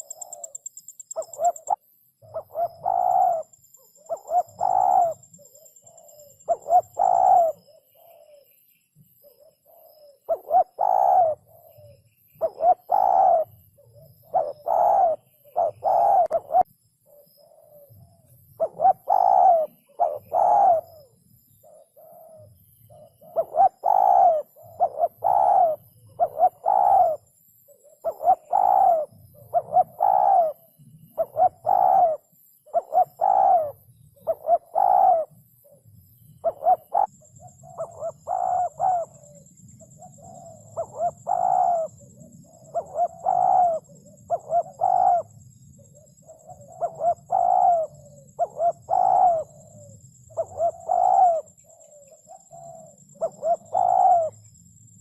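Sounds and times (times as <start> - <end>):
dove cooing: 0.0 - 8.6, 9.2 - 54.5.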